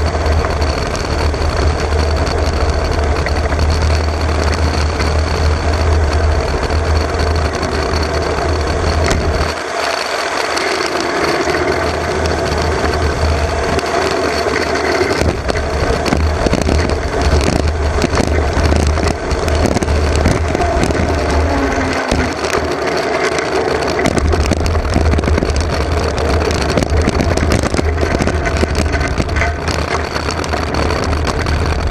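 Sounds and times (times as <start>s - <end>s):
heavy low rumble: 0.0s - 31.9s
wheels rattling over road: 0.0s - 31.9s
wind rushing on microphone: 0.0s - 31.9s.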